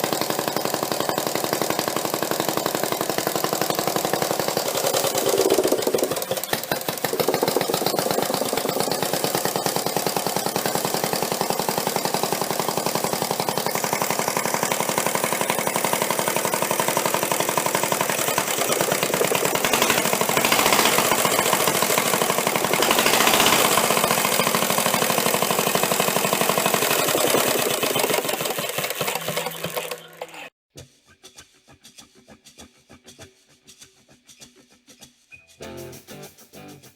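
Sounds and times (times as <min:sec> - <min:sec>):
small engine chugging: 0:00.0 - 0:30.5.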